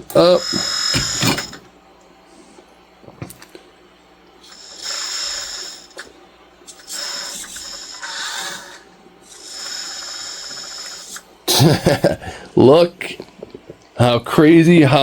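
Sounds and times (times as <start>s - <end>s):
hydraulic pump whine and hiss: 0.0s - 15.0s.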